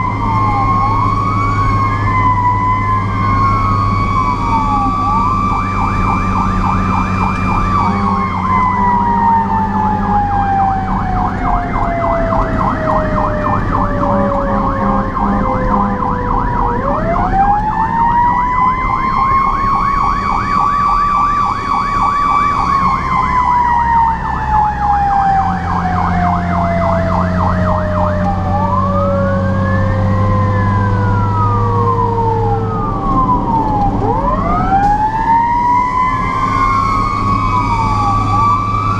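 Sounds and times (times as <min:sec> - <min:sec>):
diesel engine droning: 0:00.0 - 0:38.9
siren wailing: 0:00.0 - 0:38.9
siren yelping: 0:00.0 - 0:38.9.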